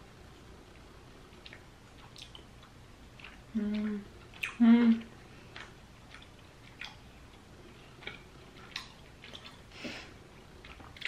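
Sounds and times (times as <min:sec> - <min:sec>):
faint chewing with mouth clicks: 0:00.1 - 0:11.0.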